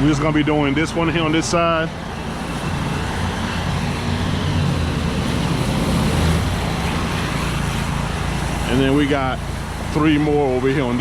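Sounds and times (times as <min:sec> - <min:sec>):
broad rushing noise: 0:00.0 - 0:11.0
engine drone: 0:00.0 - 0:11.0.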